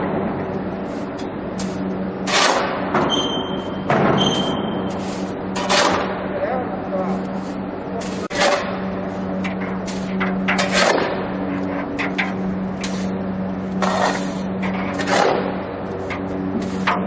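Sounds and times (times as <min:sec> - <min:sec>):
induction furnace electrical hum: 0:00.0 - 0:17.0.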